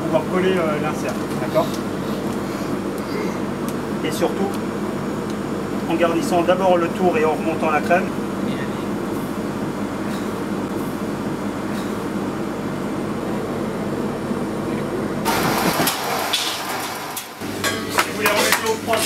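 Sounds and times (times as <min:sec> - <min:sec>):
kitchen machinery hum: 0:00.0 - 0:19.0.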